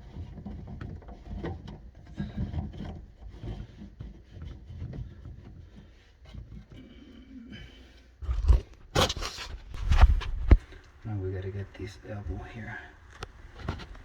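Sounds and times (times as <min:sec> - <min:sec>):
plastic fittings rubbing and scraping: 0:00.0 - 0:14.0.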